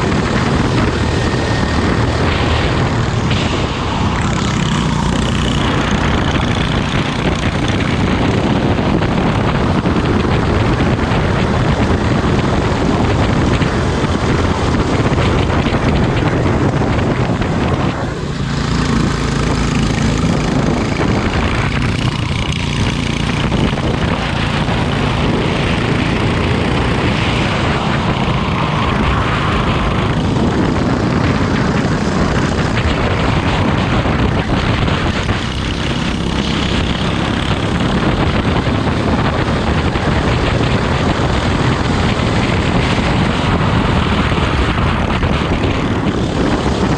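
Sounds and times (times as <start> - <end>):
kart engine running hard: 0.0 - 46.9.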